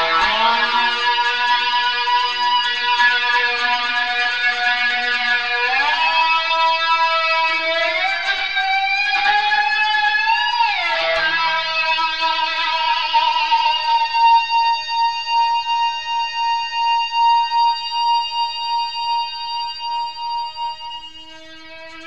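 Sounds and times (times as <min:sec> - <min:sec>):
lap steel guitar with slide: 0:00.0 - 0:22.0.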